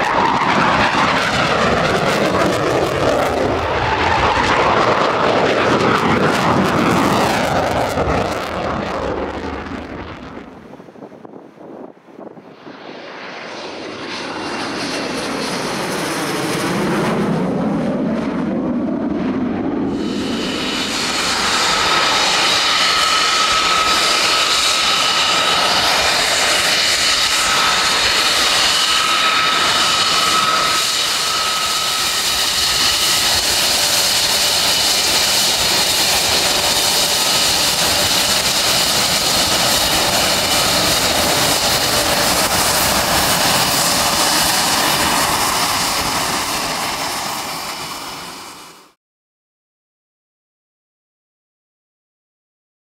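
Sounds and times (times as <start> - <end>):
jet engine whine: 0.0 - 49.0
low jet rumble: 0.0 - 49.0.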